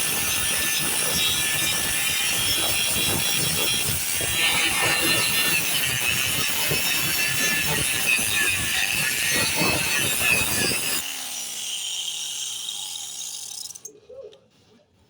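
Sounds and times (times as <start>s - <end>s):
angle grinder grinding metal: 0.0s - 13.9s.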